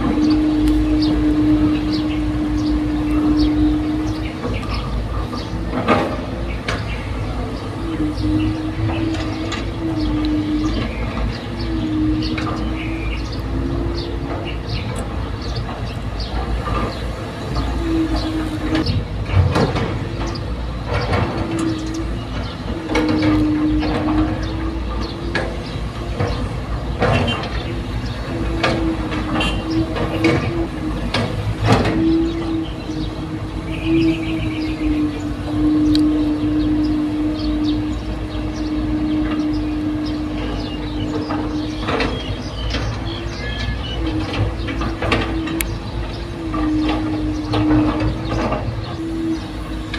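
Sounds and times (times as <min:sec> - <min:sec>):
excavator diesel engine whining: 0:00.0 - 0:49.9.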